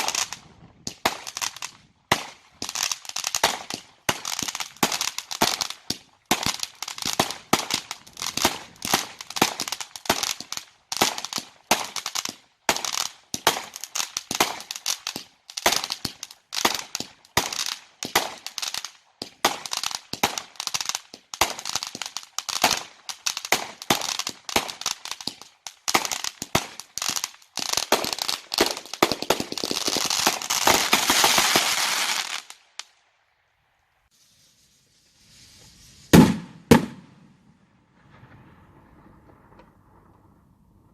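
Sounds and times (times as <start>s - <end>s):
fireworks bangs and crackle: 0.0s - 32.9s, 34.1s - 40.6s.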